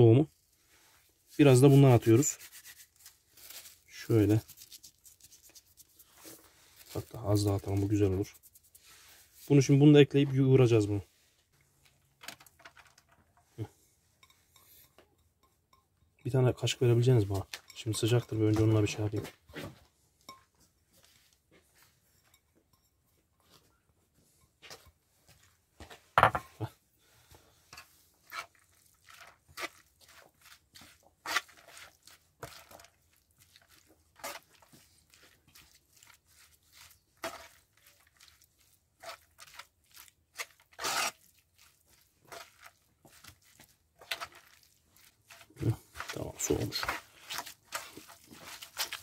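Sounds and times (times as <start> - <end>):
hand mixing food in a bowl: 0.0 - 19.6, 24.5 - 49.0.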